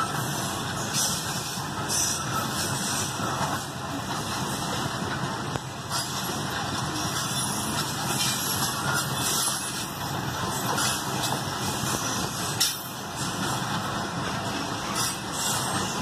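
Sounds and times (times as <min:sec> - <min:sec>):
freight train wheels rattling: 0:00.0 - 0:16.0
train cars clanking: 0:00.0 - 0:16.0.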